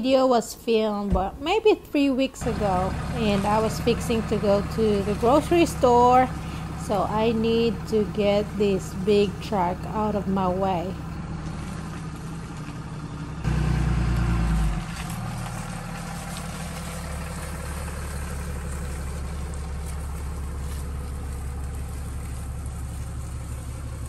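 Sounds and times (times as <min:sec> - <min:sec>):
truck engine running: 0:02.0 - 0:24.0.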